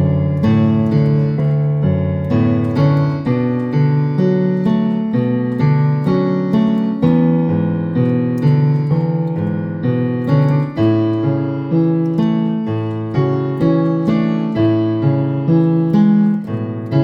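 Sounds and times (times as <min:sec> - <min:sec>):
electronic keyboard playing hymn: 0:00.0 - 0:17.0.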